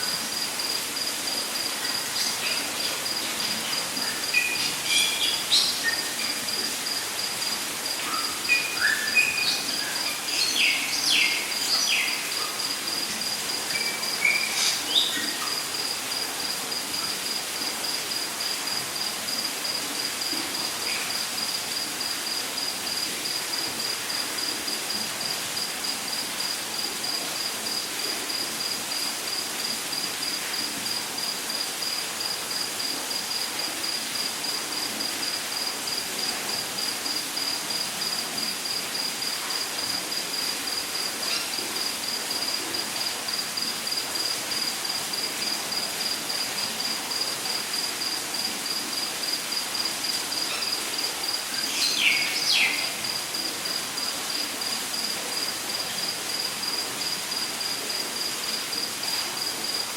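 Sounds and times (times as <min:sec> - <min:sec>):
insect chirping rapidly: 0:00.0 - 0:47.2, 0:47.8 - 0:54.4, 0:56.3 - 0:58.8
constant hiss: 0:00.0 - 0:59.9.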